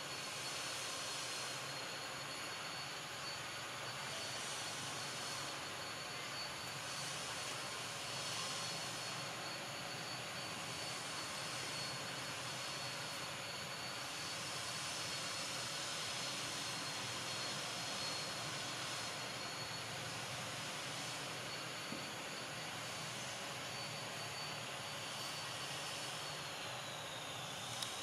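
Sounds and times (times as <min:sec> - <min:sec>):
even hiss: 0:00.0 - 0:28.0.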